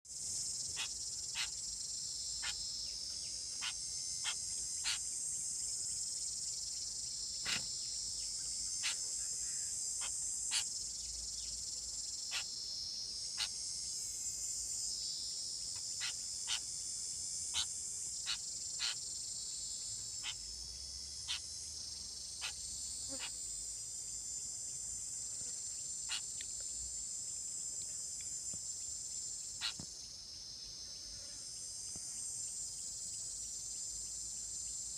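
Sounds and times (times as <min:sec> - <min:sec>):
insect chorus: 0:00.1 - 0:34.9.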